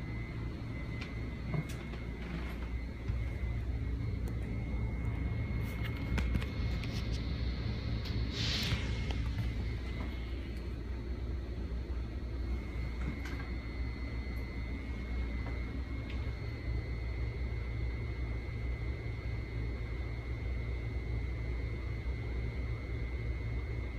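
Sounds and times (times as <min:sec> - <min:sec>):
high-pitched whine: 0:00.0 - 0:23.9
low equipment hum: 0:00.0 - 0:23.9.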